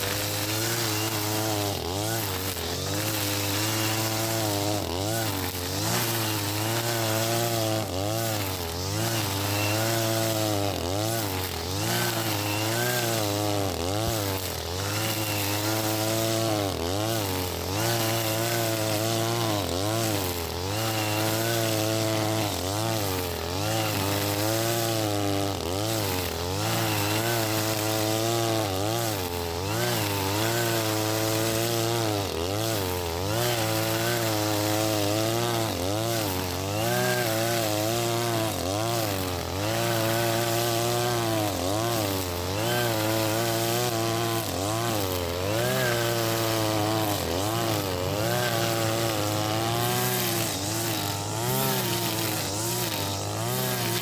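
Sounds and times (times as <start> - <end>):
brush cutter cutting grass: 0.0 - 54.0.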